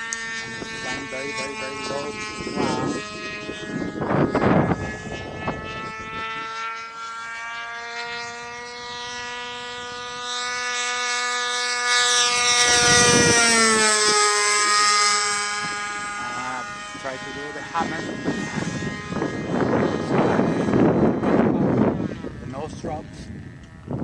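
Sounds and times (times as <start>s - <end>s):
model airplane motor whining: 0.0s - 24.0s.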